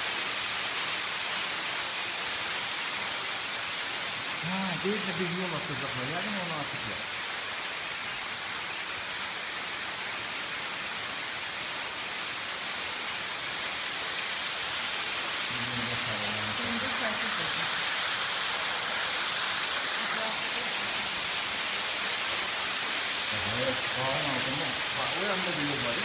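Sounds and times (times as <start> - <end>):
stream water rushing in a cave: 0.0 - 26.0.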